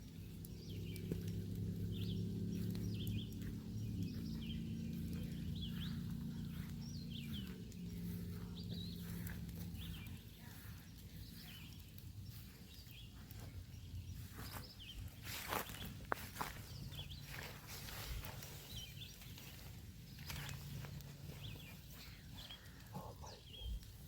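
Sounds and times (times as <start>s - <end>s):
low steady hum: 0.0s - 24.0s
small birds chirping: 0.0s - 24.0s.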